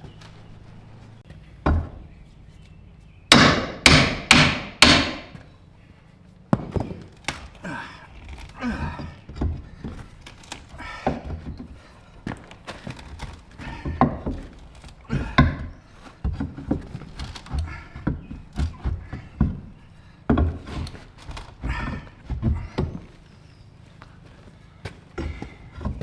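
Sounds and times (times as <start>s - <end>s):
wooden knocks and thuds: 0.0s - 2.3s, 3.3s - 5.4s, 6.5s - 23.5s, 24.8s - 26.0s.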